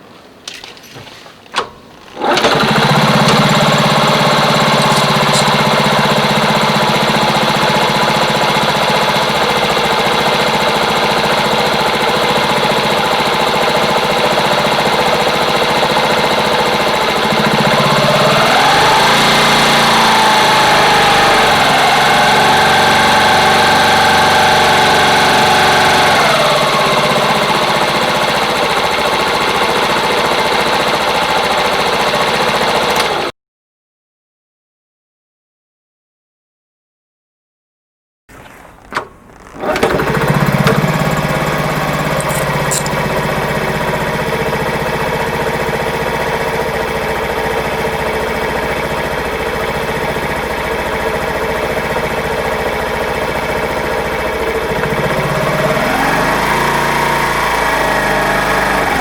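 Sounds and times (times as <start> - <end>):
motorcycle engine idling and revving: 1.6 - 33.3, 38.8 - 59.0.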